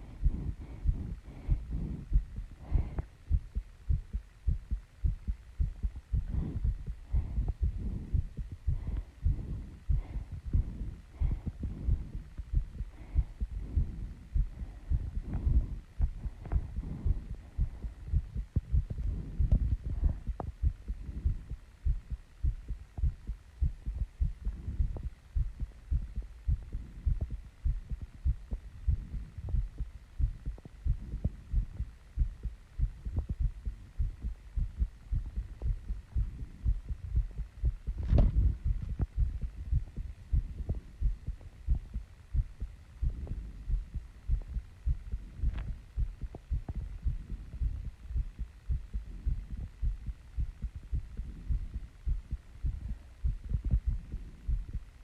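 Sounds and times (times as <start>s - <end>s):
fast heartbeat thumps: 0.0s - 55.0s.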